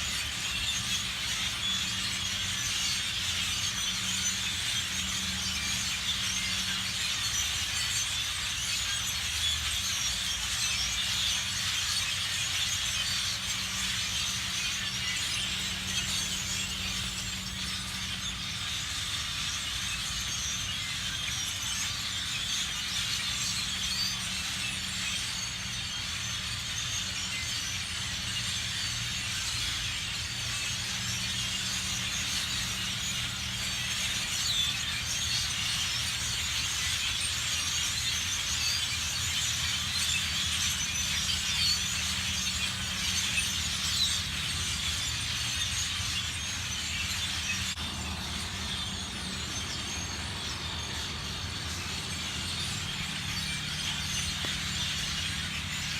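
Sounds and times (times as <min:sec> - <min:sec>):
flock of birds chattering: 0:00.0 - 0:55.9.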